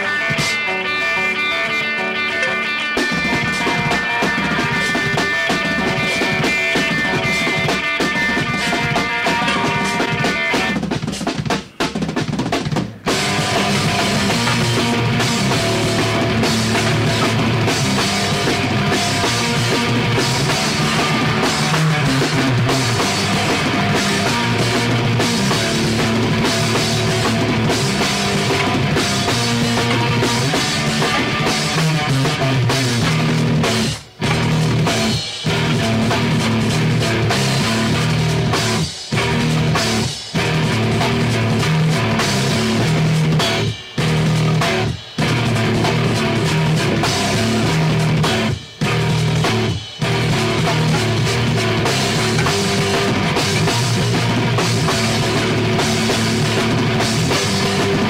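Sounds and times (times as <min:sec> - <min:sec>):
drum kit and bass beat: 0:00.0 - 0:58.0.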